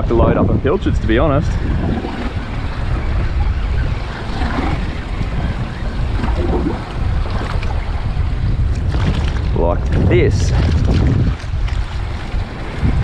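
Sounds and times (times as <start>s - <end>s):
steady low rumble: 0.0s - 13.0s
wind buffeting the microphone: 0.0s - 13.0s
water washing against boat hull: 0.8s - 13.0s.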